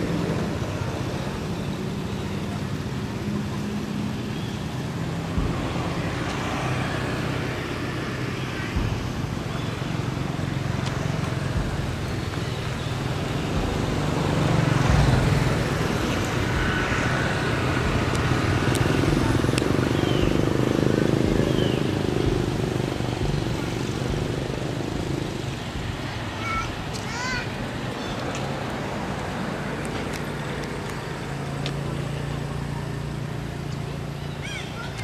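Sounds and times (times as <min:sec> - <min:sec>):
vehicle engine rumble: 0:00.0 - 0:35.0.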